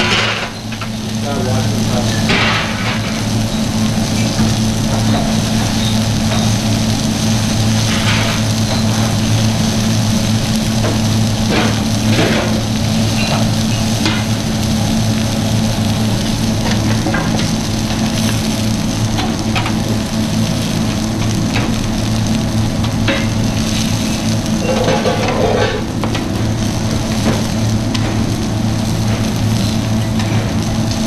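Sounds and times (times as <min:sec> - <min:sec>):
onions sizzling on a griddle: 0:00.0 - 0:31.0
steady low hum: 0:00.0 - 0:31.0.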